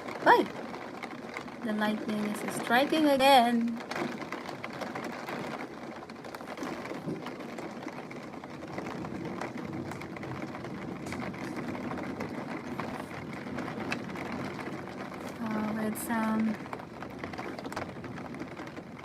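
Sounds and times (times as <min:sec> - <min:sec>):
heavy rain through closed window: 0:00.0 - 0:19.0.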